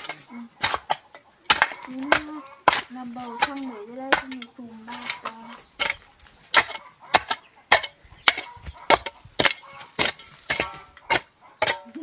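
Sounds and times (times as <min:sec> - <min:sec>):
hand hoe chopping into soil: 0:00.0 - 0:12.0.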